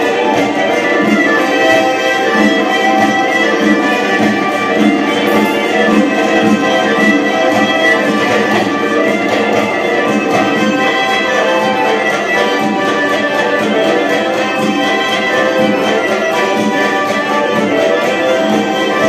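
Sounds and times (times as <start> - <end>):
lively folk dance music: 0.0 - 19.0.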